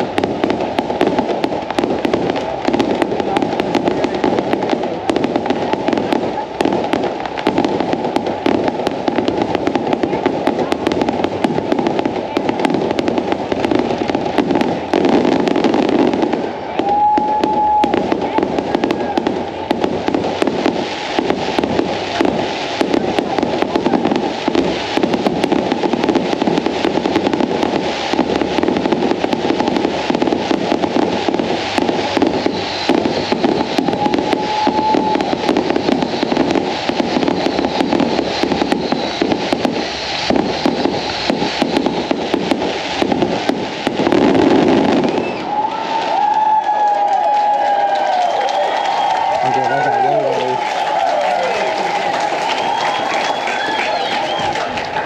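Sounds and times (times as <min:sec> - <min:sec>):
firework shell bursts and crackle: 0:00.0 - 0:55.0.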